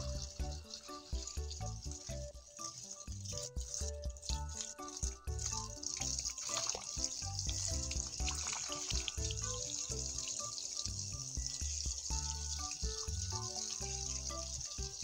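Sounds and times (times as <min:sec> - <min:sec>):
hose water spraying and splashing: 0:00.0 - 0:15.0
music with steady beat: 0:00.0 - 0:15.0.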